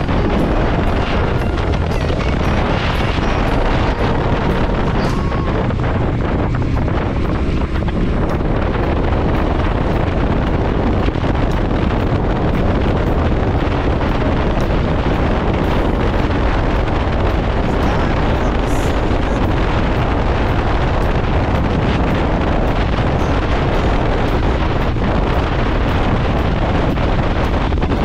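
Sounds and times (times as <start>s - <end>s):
motorcycle engine cruising: 0.0s - 28.0s
wind buffeting microphone: 0.0s - 28.0s.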